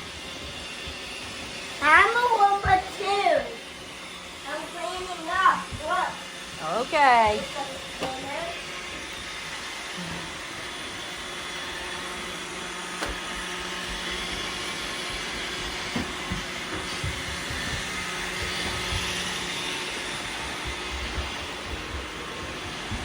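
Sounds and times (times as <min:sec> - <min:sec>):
robot vacuum cleaner whirring: 0:00.0 - 0:23.0.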